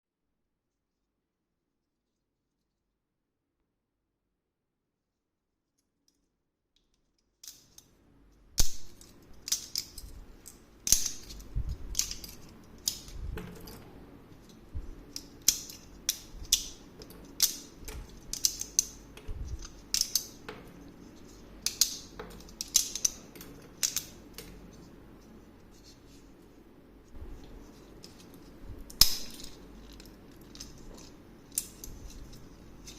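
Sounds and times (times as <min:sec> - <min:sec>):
faint low hum: 0:00.5 - 0:32.9.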